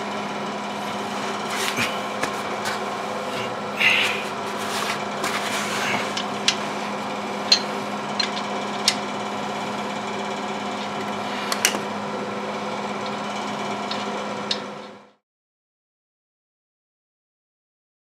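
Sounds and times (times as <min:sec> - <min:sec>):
heater humming: 0:00.0 - 0:15.2.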